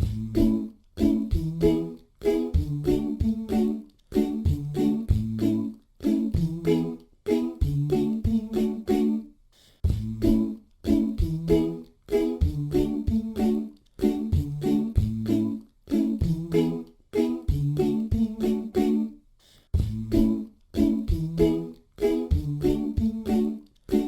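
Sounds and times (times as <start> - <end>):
a cappella voices singing: 0.0 - 24.0
vocal beat: 0.0 - 24.0.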